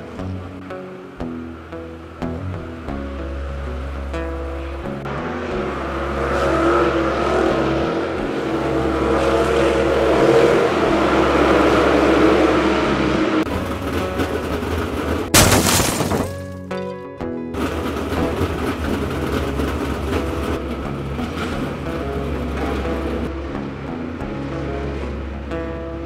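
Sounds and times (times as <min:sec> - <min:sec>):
race cars running on track: 0:00.0 - 0:15.4, 0:17.5 - 0:26.0
background music: 0:00.0 - 0:26.0.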